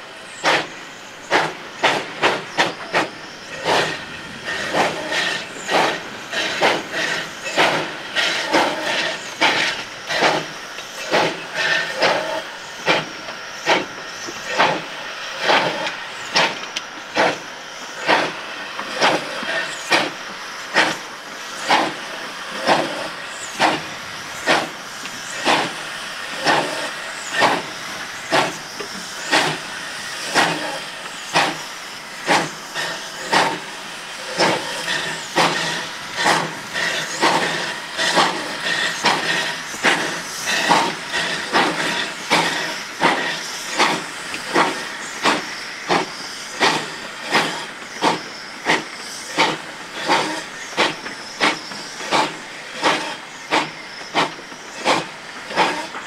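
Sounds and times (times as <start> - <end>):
steam hissing: 0.0 - 56.0
steam locomotive exhaust chuffs: 0.0 - 56.0.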